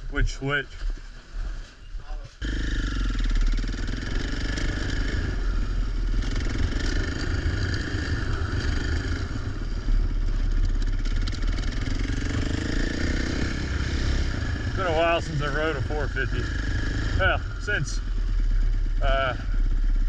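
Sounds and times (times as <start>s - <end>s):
dirt bike engine revving: 2.4s - 20.0s.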